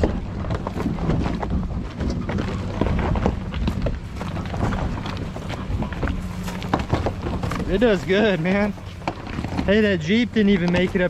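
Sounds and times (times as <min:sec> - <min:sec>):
pickup truck engine rumble: 0:00.0 - 0:11.0
stones crunching and clicking: 0:00.0 - 0:11.0
wind buffeting microphone: 0:00.0 - 0:11.0.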